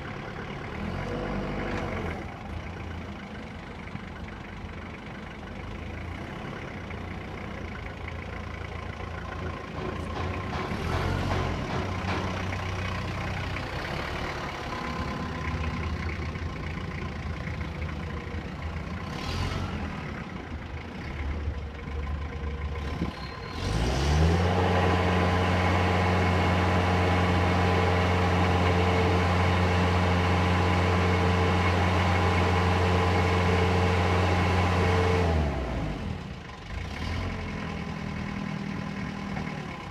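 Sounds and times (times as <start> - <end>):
forklift engine idling and revving: 0.0 - 39.9.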